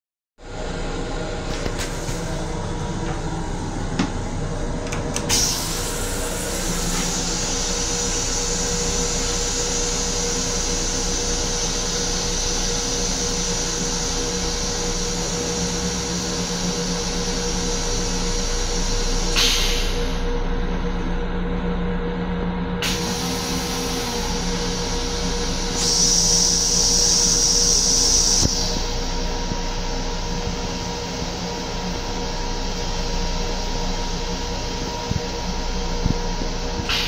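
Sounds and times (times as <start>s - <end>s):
railcar running hum and hiss: 0.4s - 37.0s.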